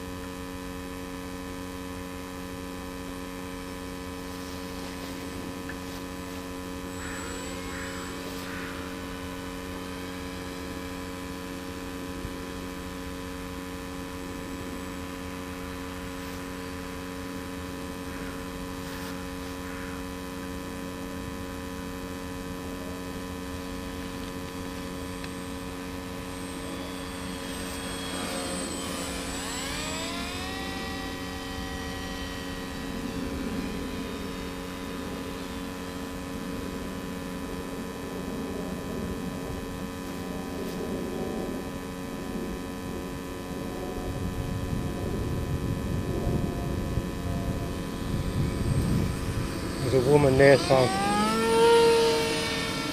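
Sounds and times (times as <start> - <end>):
model plane propeller whine: 0.0 - 52.9
steady hum: 0.0 - 52.9.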